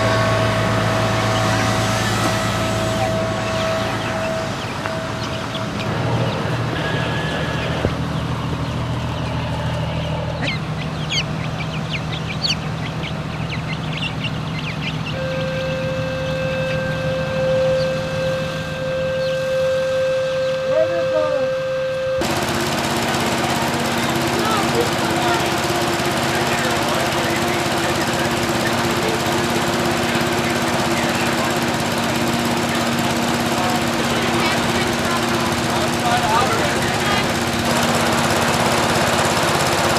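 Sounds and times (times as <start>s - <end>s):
birds chirping: 0.0s - 39.9s
low engine drone: 0.0s - 39.9s.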